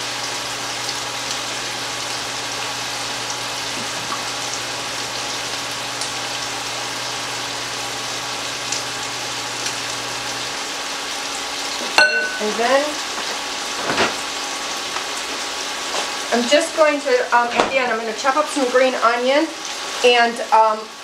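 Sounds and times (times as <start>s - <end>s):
chicken frying in a pan: 0.0s - 21.0s.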